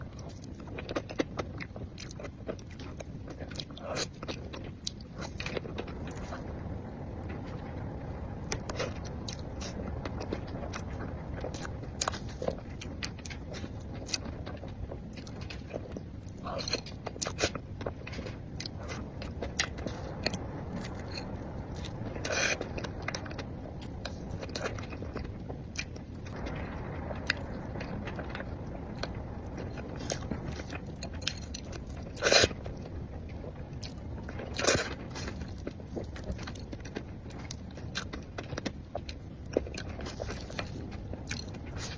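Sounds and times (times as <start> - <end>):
chewing cake: 0.0 - 6.5, 8.5 - 26.4, 27.2 - 41.9
small clicks and crackles: 0.0 - 41.9.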